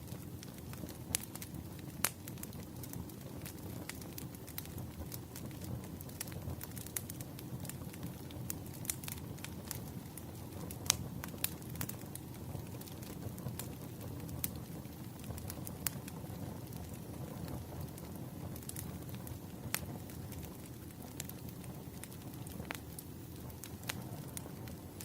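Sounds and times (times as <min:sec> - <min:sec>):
fire rumbling: 0:00.0 - 0:25.0
wood crackling and popping: 0:00.0 - 0:25.0.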